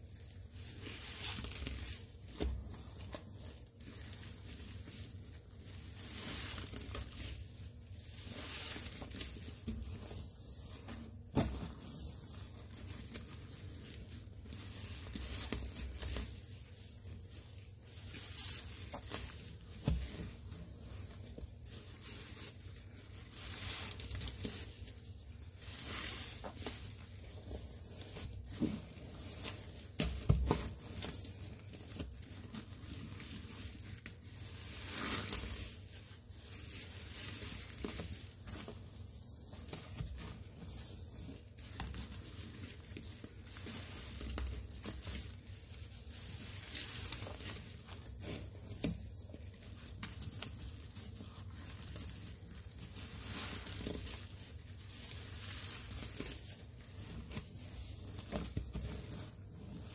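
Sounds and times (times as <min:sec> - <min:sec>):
sponge squelching in foamy paste: 0:00.0 - 0:59.9.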